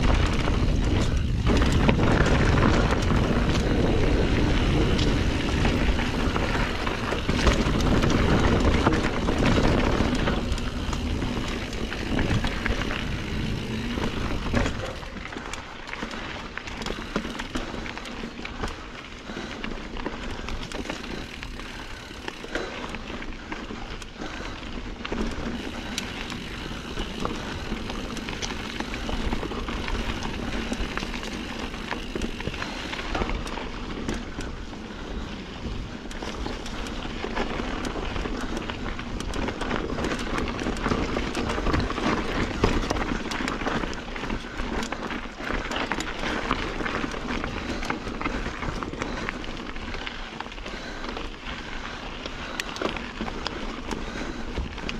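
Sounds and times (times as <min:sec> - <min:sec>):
bike rattles and knocks: 0:00.0 - 0:54.9
bike tyres on dirt: 0:00.0 - 0:54.9.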